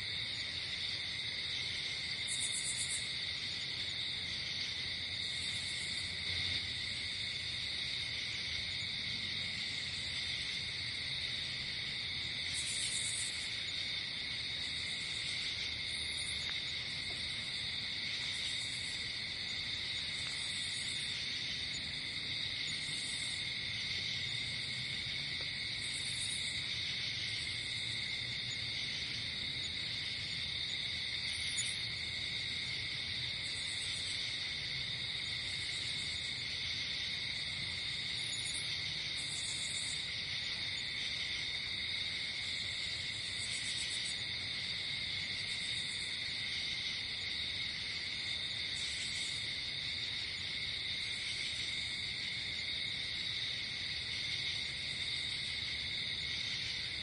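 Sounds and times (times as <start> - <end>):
crickets trilling: 0.0 - 57.0
high insect chirps: 9.6 - 57.0.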